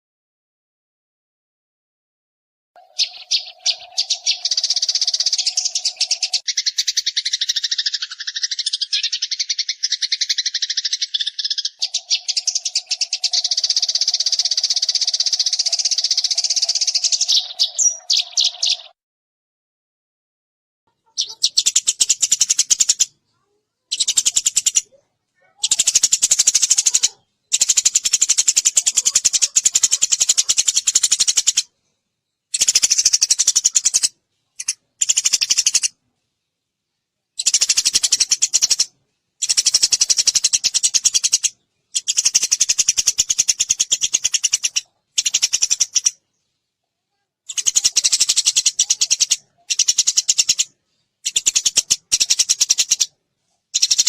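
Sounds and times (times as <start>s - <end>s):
sparrow chirping: 2.8s - 19.0s, 20.9s - 54.0s.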